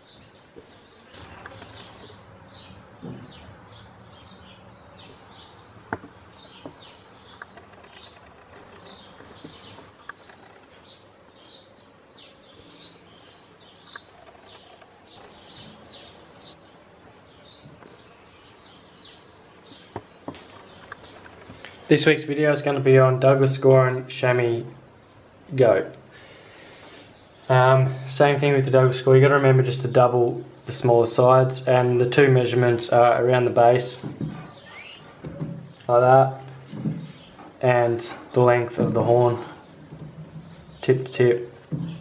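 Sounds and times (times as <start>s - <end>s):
small birds chirping: 0.0s - 42.0s
steady background noise: 0.0s - 42.0s.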